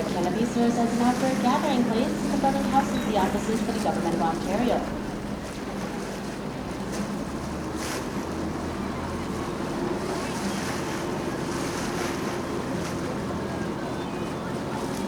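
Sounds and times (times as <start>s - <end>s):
low boat engine drone: 0.0s - 15.0s
water rushing past hull: 0.0s - 15.0s.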